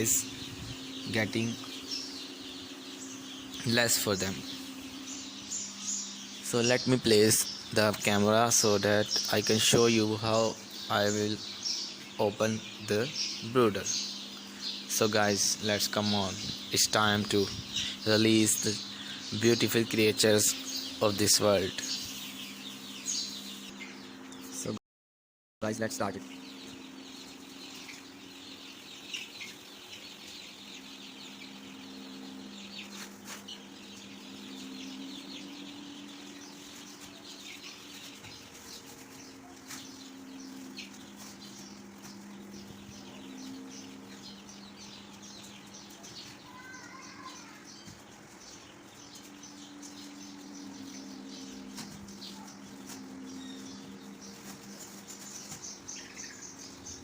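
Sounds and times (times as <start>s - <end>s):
chicks peeping: 0.0s - 24.8s, 25.6s - 57.0s.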